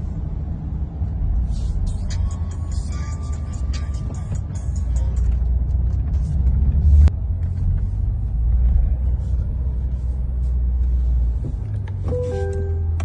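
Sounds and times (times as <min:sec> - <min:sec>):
car rumble: 0:00.0 - 0:13.0.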